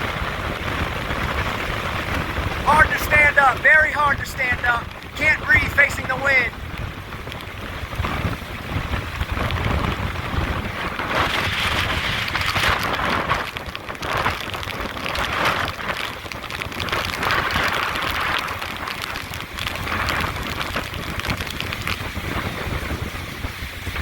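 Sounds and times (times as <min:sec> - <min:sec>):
driving rain: 0:00.0 - 0:24.0
strong gusting wind: 0:00.0 - 0:24.0
wind rumble on microphone: 0:00.0 - 0:24.0.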